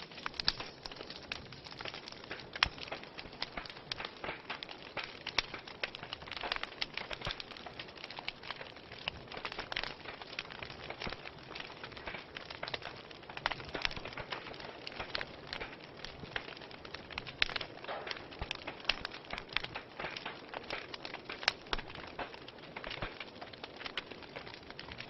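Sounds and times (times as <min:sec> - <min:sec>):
fire crackling and popping: 0:00.0 - 0:25.0
soft hiss of fire: 0:00.0 - 0:25.0.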